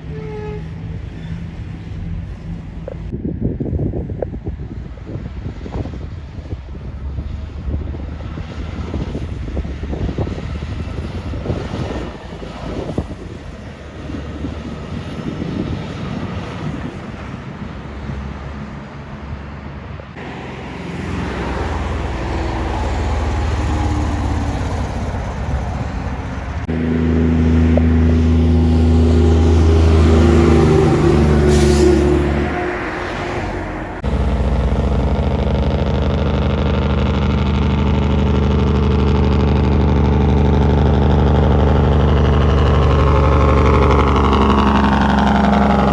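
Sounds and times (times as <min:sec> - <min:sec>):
truck diesel engine drone: 0:00.0 - 0:03.4, 0:04.5 - 0:45.9
traffic rumble: 0:00.0 - 0:45.9
wind buffeting microphone: 0:02.2 - 0:17.9, 0:20.2 - 0:36.3, 0:41.0 - 0:45.9.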